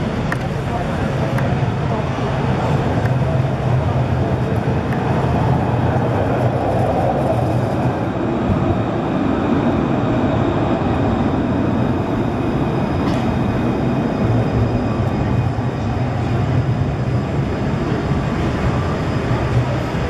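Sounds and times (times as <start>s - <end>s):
tram rumbling past: 0.0s - 20.0s.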